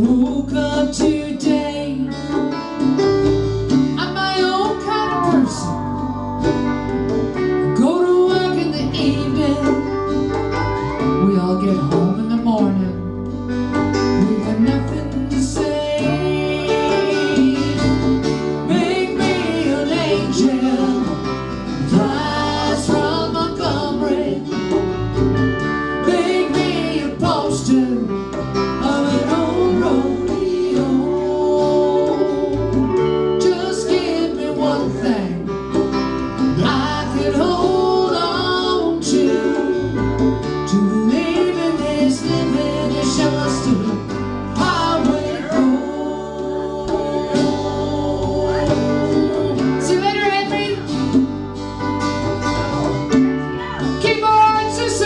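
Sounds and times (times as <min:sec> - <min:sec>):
woman singing: 0:00.0 - 0:02.6, 0:03.9 - 0:06.4, 0:07.6 - 0:10.3, 0:11.0 - 0:13.2, 0:14.1 - 0:24.9, 0:25.7 - 0:35.6, 0:36.5 - 0:51.3, 0:53.5 - 0:55.0
lap steel guitar: 0:00.0 - 0:55.0
strummed acoustic guitar: 0:00.0 - 0:55.0.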